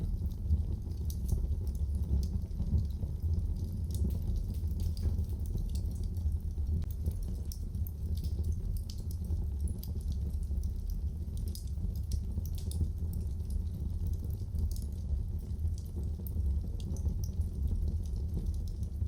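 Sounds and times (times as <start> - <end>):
burning fire rumble: 0.0 - 19.0
fire pops and snaps: 0.0 - 19.0.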